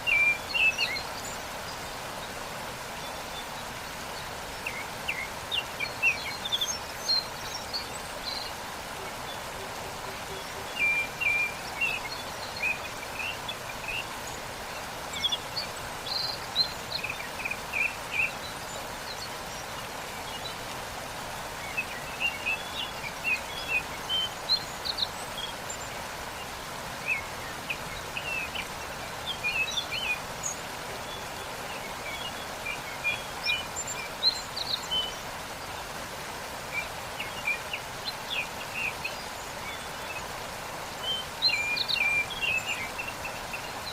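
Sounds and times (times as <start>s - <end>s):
birds chirping: 0.0s - 43.9s
waterfall rushing: 0.0s - 43.9s.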